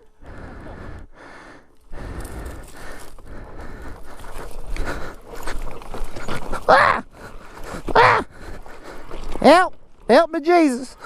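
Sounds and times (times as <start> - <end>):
tyres crunching on loose rock: 1.8 - 11.0.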